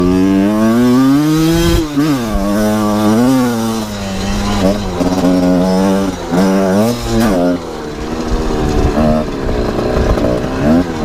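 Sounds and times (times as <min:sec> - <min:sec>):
two-stroke dirt bike engine blipping: 0:00.0 - 0:11.0.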